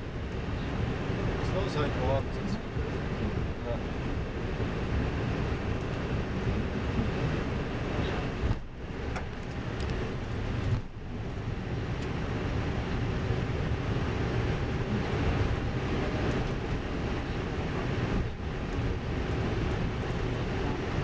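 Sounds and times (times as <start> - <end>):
airliner engine rumble on runway: 0.0 - 21.0.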